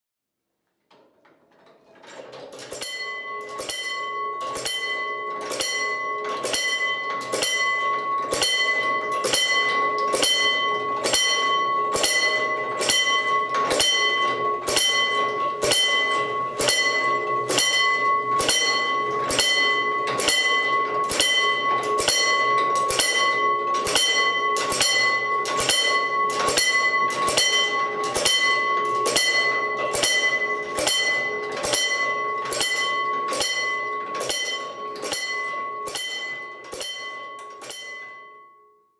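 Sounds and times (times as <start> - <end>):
ringing warning bell strokes: 2.6 - 38.7.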